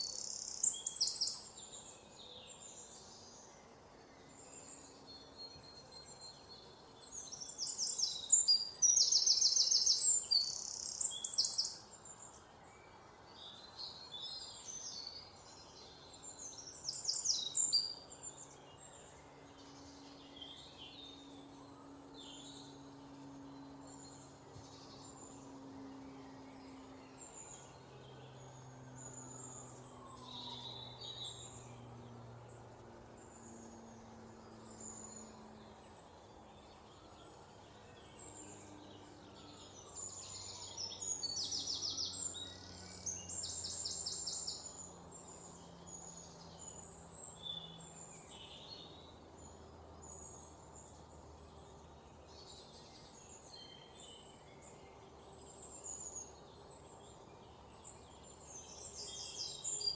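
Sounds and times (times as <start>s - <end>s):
faint low drone: 0.0s - 59.9s
songbirds chirping and trilling: 0.0s - 59.9s.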